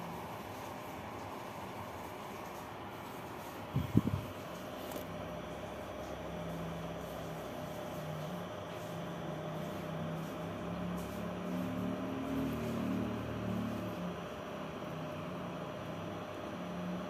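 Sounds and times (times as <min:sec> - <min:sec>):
faint steady whine: 0:00.0 - 0:17.0
mechanical hum and hiss: 0:00.0 - 0:17.0.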